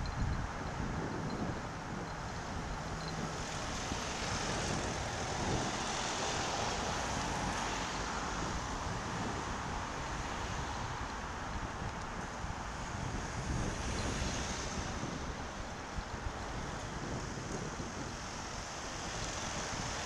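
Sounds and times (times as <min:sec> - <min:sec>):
road traffic noise: 0:00.0 - 0:20.0
wind rushing over microphone: 0:00.0 - 0:20.0.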